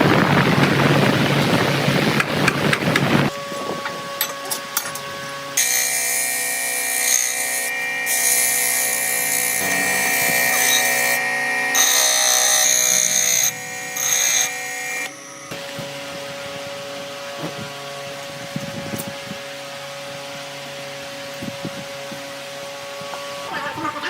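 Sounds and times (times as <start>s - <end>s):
power tool cutting wood: 0.4s - 24.0s.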